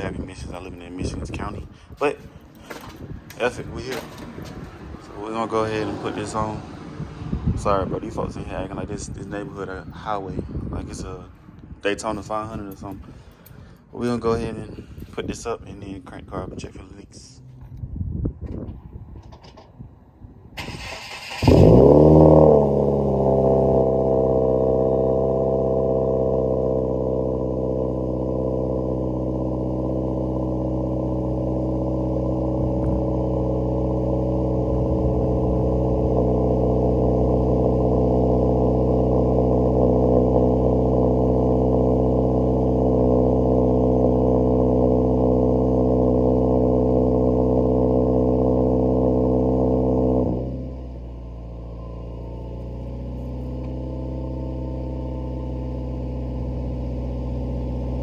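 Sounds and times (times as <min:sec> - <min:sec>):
car engine starting and idling: 0:00.0 - 0:58.0.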